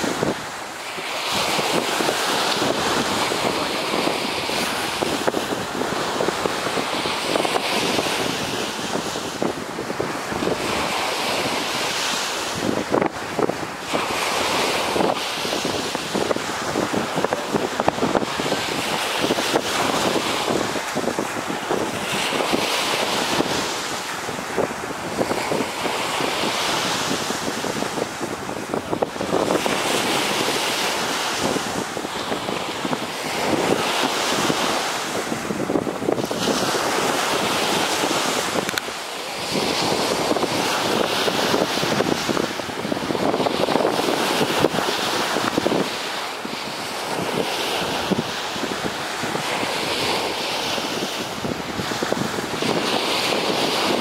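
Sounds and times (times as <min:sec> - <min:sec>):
surf washing onto sand: 0:00.0 - 0:54.0
wind buffeting microphone: 0:00.0 - 0:54.0.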